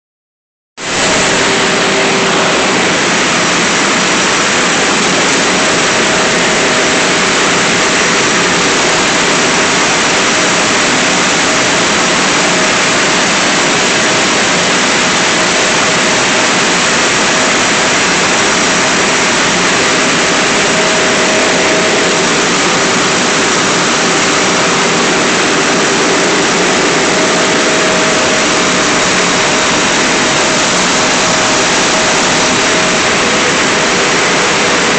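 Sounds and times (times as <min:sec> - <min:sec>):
printing press running: 0:00.8 - 0:34.9.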